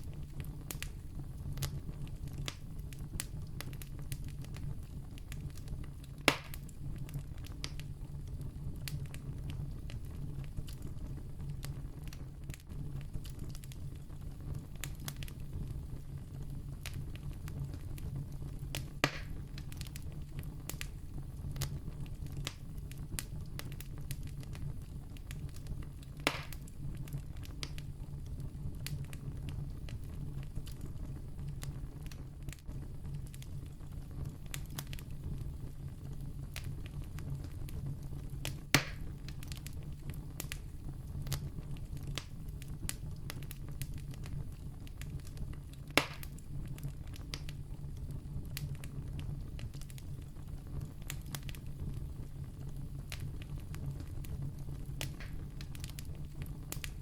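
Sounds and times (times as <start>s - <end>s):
campfire rumbling and crackling: 0.0s - 57.0s
loud fire pops: 0.0s - 57.0s.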